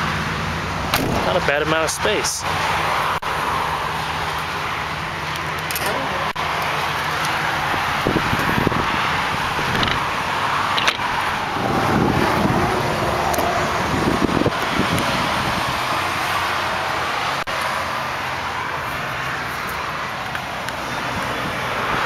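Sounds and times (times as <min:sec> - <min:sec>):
highway traffic roar: 0:00.0 - 0:22.0.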